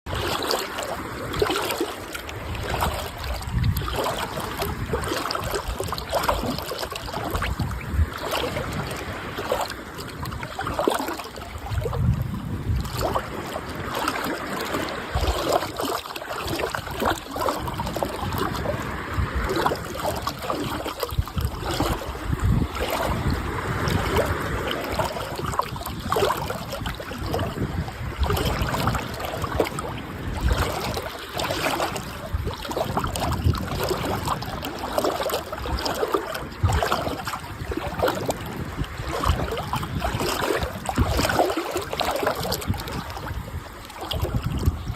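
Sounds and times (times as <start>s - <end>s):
sea water washing and splashing: 0.1s - 44.9s.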